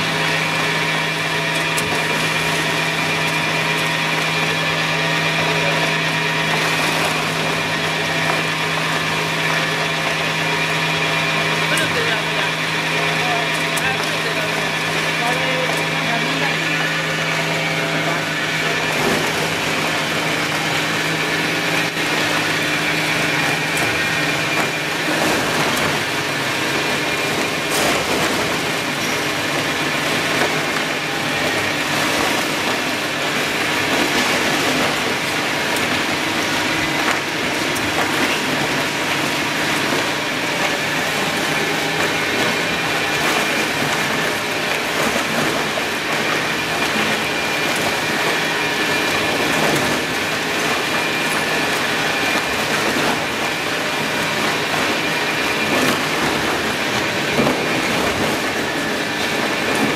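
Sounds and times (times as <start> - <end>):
machine motors running: 0.0 - 59.9.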